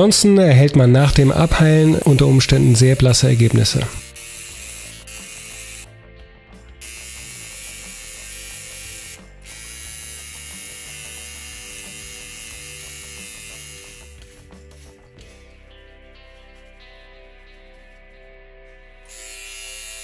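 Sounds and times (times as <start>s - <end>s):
tattoo machine running: 1.0s - 17.9s, 19.0s - 20.0s.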